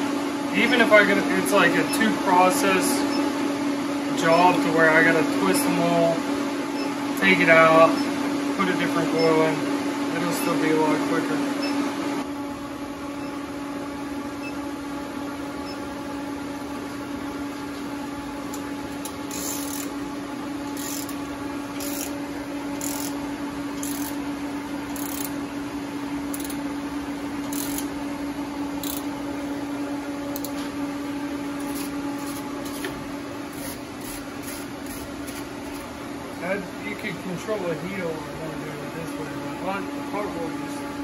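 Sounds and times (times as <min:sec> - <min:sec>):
induction heater humming: 0:00.0 - 0:41.0.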